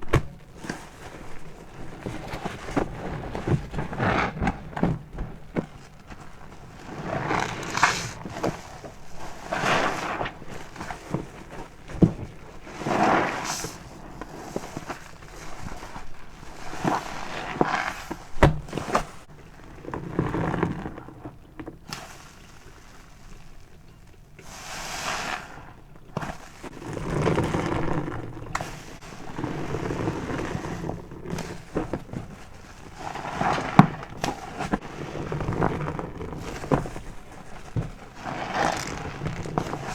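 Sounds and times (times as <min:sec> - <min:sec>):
wet foamy sponge squelching: 0:00.5 - 0:19.3, 0:21.8 - 0:39.9.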